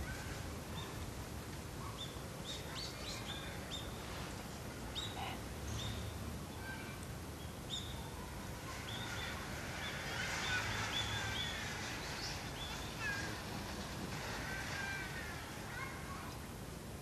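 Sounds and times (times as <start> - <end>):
outdoor background hiss: 0.0 - 17.0
birds chirping: 1.8 - 4.2, 4.8 - 16.1.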